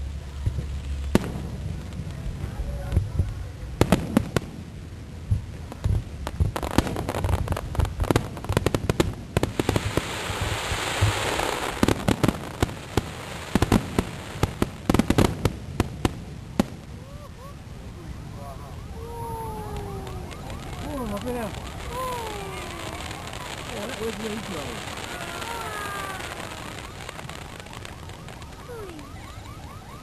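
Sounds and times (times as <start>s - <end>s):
fireworks bangs and cracks: 0.0s - 17.2s, 19.0s - 29.1s
fireworks hissing crackle: 0.0s - 29.6s.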